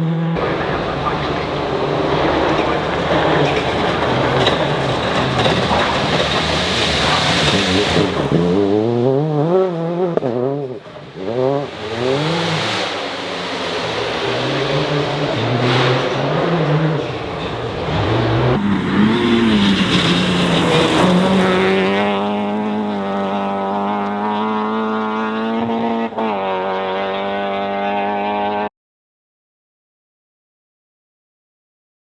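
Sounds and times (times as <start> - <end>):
rally car engine revving: 0.0 - 28.7.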